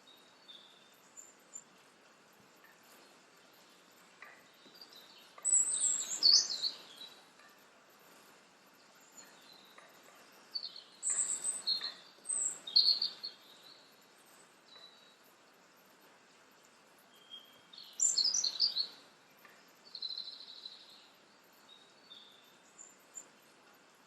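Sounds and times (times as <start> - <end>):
bird chirping: 0.0 - 1.8, 2.6 - 15.3, 17.1 - 23.4.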